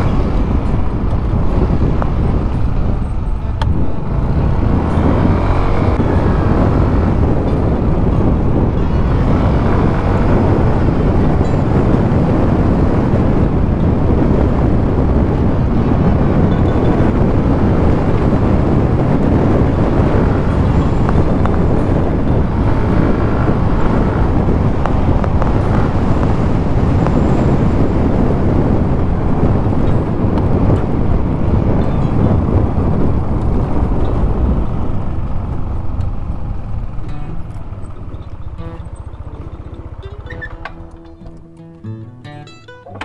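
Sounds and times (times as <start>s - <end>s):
scooter engine running: 0.0s - 41.4s
wind noise on microphone: 0.0s - 43.0s.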